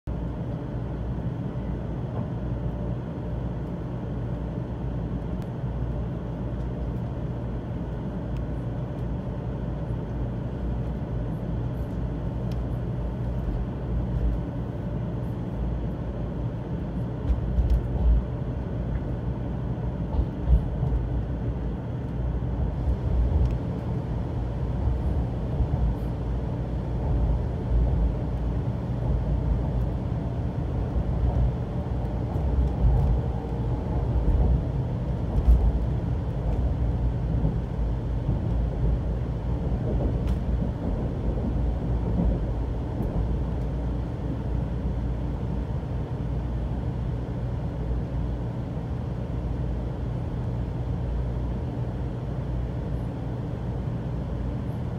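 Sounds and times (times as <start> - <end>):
train running gear rumble: 0.1 - 54.9.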